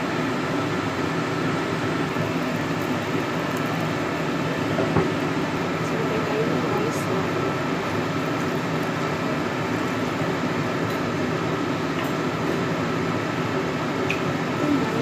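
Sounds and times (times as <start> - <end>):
pork simmering in sauce: 0.1 - 15.0
rushing kitchen noise: 1.9 - 15.0.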